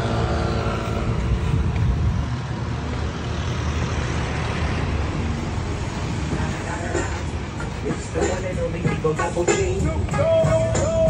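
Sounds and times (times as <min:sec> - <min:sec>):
pitched engine drone: 0:00.0 - 0:10.2
traffic engines rumbling: 0:00.0 - 0:11.0.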